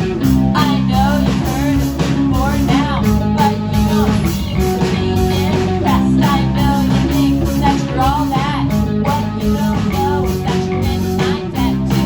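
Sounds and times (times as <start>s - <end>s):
electric guitar: 0.0s - 12.0s
rock band playing live: 0.0s - 12.0s.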